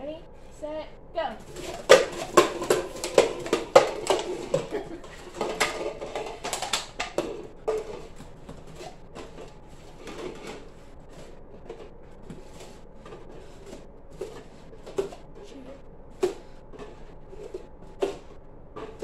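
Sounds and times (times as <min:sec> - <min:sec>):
plastic cups clattering on a table: 0:01.4 - 0:19.0.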